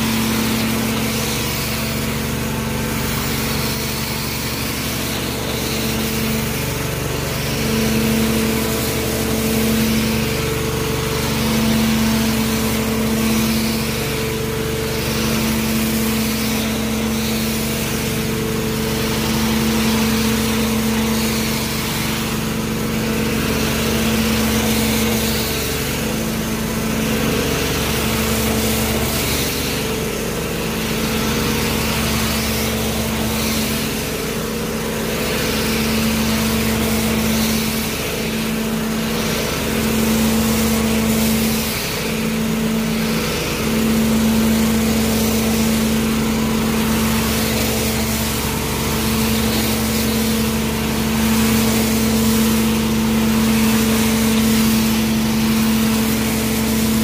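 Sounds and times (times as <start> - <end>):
extraction machine droning: 0.0 - 57.0
wand sucking water off floor: 0.0 - 57.0.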